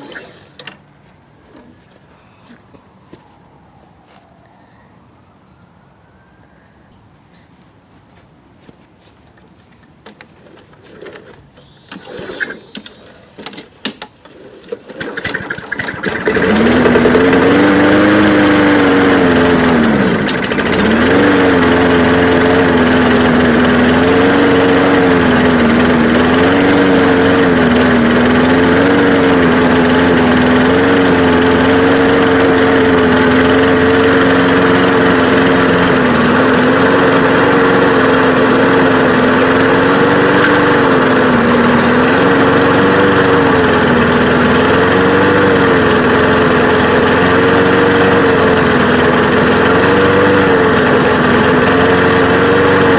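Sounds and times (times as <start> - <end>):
lawn mower engine running rough: 0.0 - 0.8, 10.0 - 52.9.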